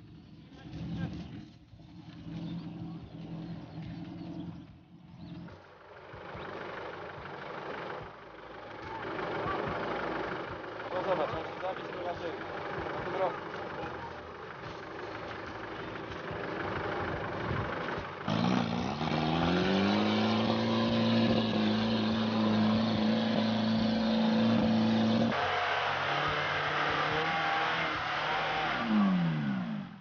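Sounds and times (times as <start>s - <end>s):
off-road engines revving: 0.0s - 30.0s.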